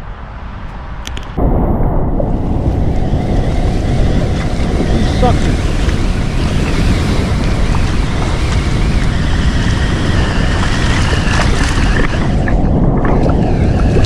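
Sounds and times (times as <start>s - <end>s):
deep rumble of water: 1.4s - 14.0s
floodwater rushing: 2.2s - 14.0s.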